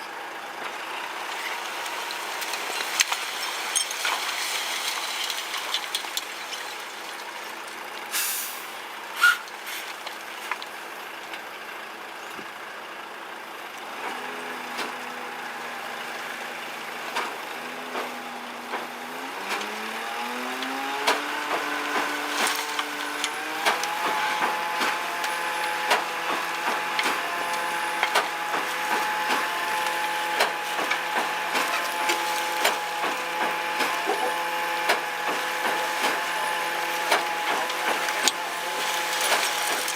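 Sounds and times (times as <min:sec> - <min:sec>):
truck diesel engine running: 0:07.3 - 0:39.9.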